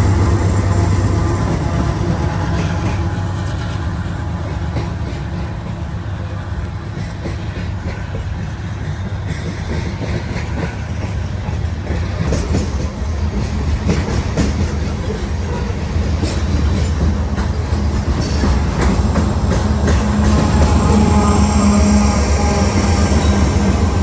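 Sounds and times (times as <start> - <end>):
diesel locomotive rumble: 0.0 - 24.0
train wheels clicking over rail joints: 0.0 - 24.0.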